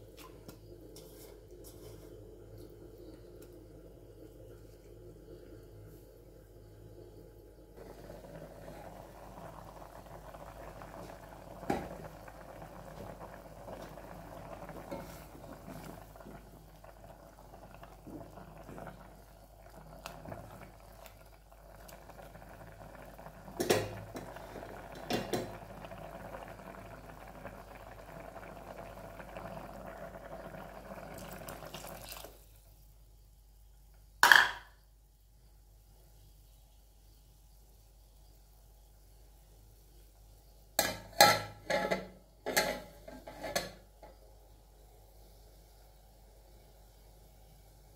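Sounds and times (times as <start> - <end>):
gravy simmering and bubbling: 0.0 - 33.0, 38.3 - 47.9.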